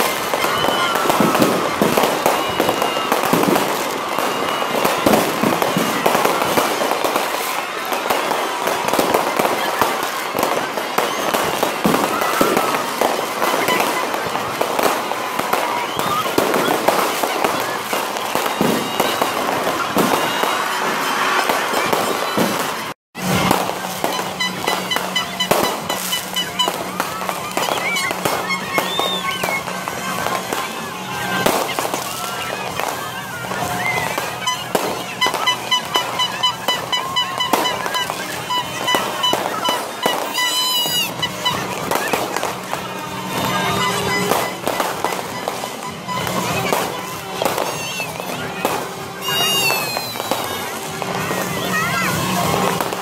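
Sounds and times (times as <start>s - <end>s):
firework whistles: 0.0s - 53.0s
fireworks bangs and crackling: 0.0s - 53.0s.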